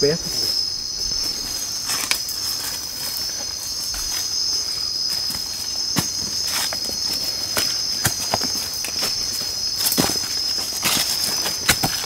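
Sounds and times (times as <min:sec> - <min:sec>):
night insects chorus: 0:00.0 - 0:12.0
footsteps on trail: 0:00.3 - 0:12.0.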